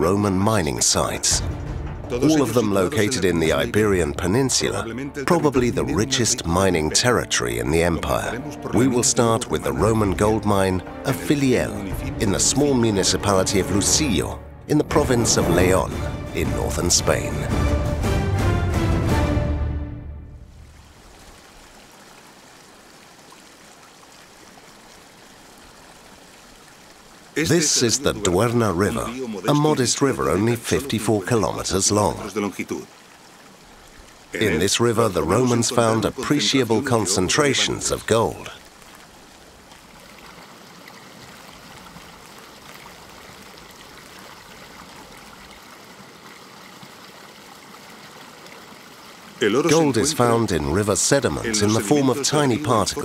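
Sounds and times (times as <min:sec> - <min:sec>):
river flowing: 0:00.0 - 0:53.0.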